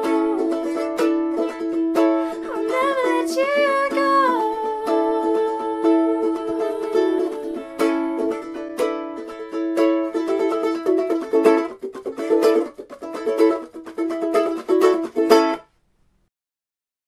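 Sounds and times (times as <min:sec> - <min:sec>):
ukulele strumming chords: 0:00.0 - 0:15.7.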